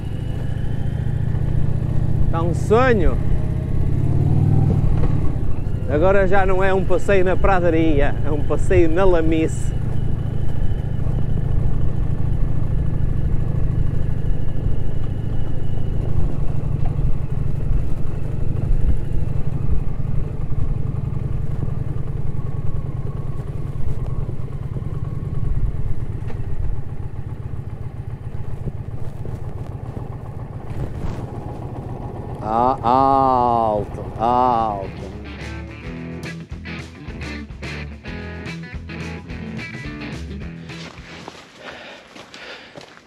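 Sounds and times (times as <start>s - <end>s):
motorcycle engine at low speed: 0.0s - 43.0s.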